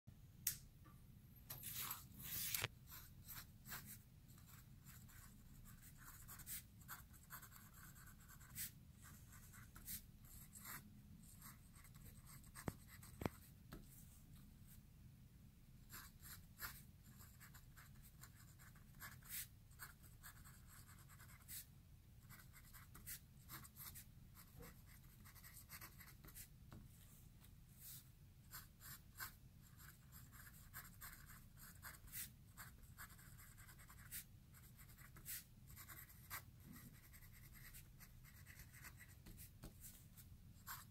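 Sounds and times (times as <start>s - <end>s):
pen nib scratching paper: 1.6s - 13.8s, 15.9s - 26.5s, 28.5s - 40.0s.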